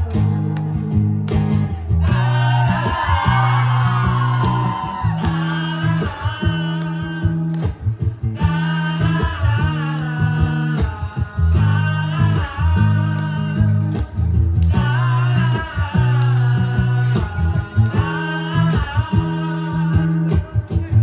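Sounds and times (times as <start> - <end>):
plucked guitar: 0.0 - 21.0
wordless singing: 1.6 - 21.0.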